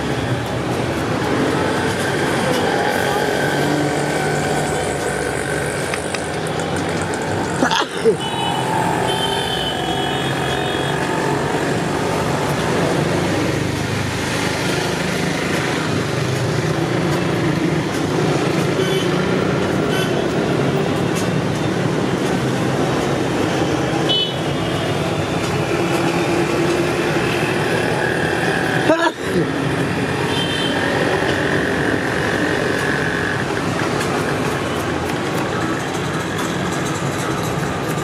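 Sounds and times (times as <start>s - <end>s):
street traffic passing: 0.0s - 38.0s.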